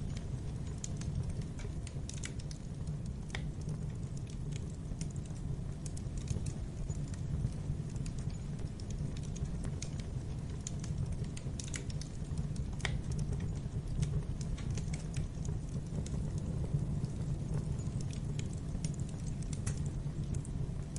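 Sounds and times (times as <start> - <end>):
fire snapping and popping: 0.0 - 20.9
low rumble of flames: 0.0 - 20.9.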